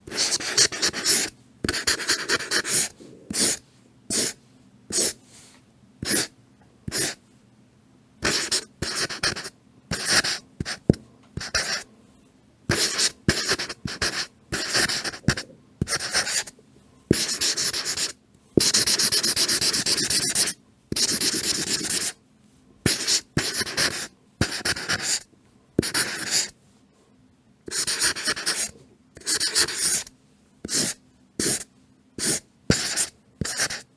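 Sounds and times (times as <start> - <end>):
marker pen writing: 0.1 - 5.2, 6.0 - 6.3, 6.9 - 7.2, 8.2 - 11.8, 12.7 - 16.5, 17.1 - 22.2, 22.9 - 25.2, 25.8 - 26.5, 27.7 - 33.9.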